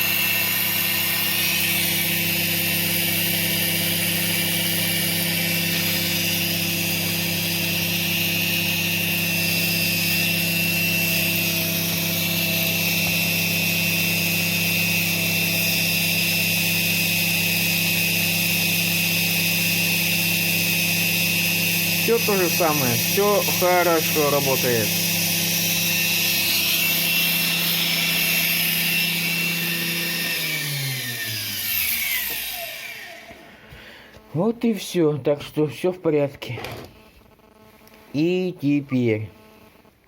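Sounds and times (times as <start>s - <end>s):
electric motor humming and whining: 0.0s - 34.5s, 39.4s - 39.9s.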